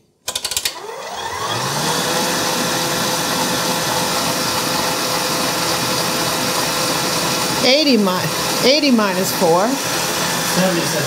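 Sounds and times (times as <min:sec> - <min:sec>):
stand mixer motor humming: 0:00.7 - 0:11.0.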